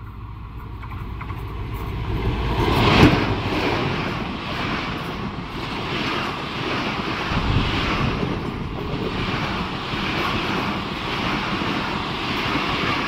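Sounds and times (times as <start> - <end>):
locomotive passing at speed: 0.0 - 13.0
train coaches rolling on rails: 0.0 - 13.0.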